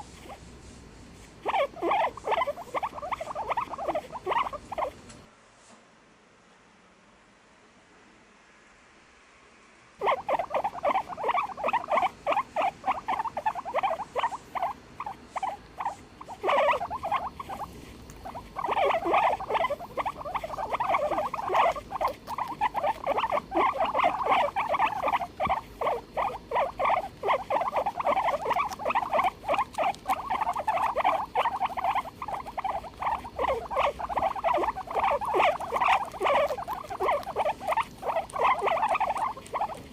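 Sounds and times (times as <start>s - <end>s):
guinea pig squealing: 0.0s - 0.4s, 1.4s - 5.0s, 10.0s - 39.9s.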